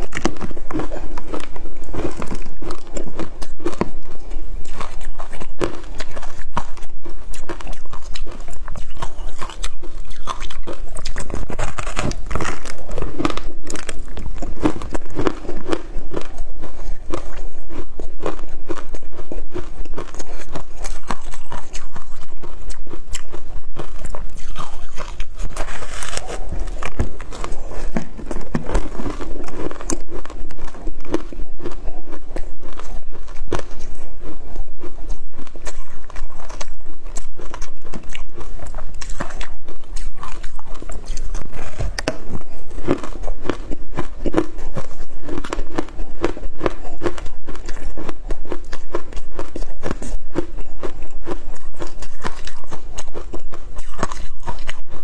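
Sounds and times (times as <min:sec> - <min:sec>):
chewing: 0:00.0 - 0:55.0
crunching ice with teeth: 0:00.0 - 0:55.0.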